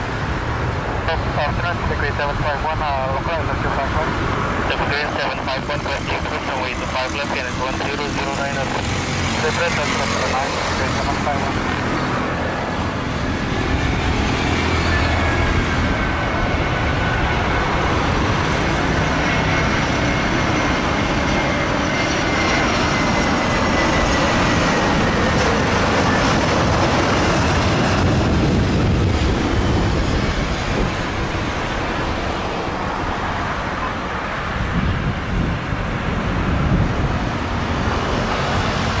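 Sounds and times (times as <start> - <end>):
jet engines whining and rushing: 0.0 - 39.0.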